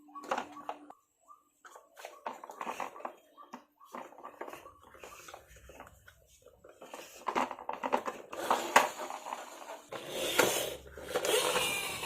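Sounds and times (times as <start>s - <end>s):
plastic toy cars rattling: 0.0s - 1.0s, 1.7s - 12.0s.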